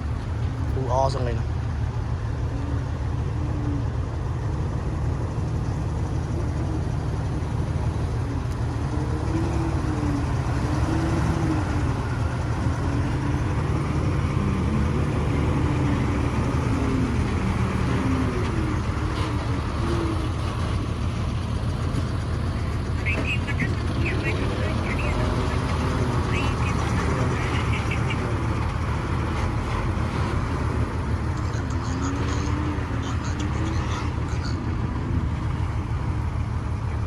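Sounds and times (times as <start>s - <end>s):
heavy diesel engine rumbling: 0.0s - 37.0s.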